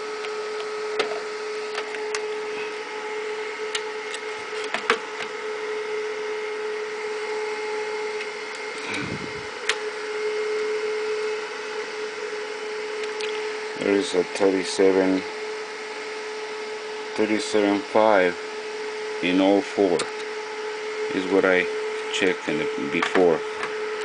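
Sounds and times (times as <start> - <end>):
cooling fan humming: 0.0 - 24.0.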